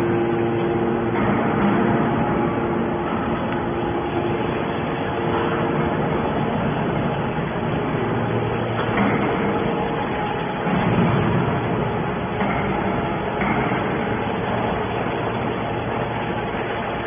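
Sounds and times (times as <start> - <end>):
can baler machinery din: 0.0 - 17.0
constant machine hum: 0.0 - 17.0.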